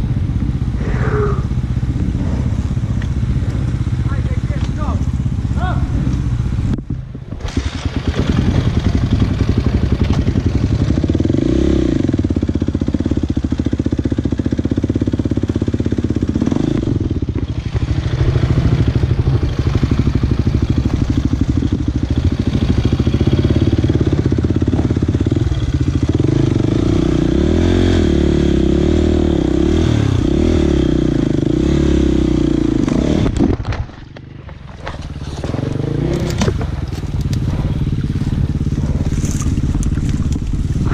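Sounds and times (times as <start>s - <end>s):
dirt bike engine revving: 0.0s - 33.7s, 34.7s - 40.9s.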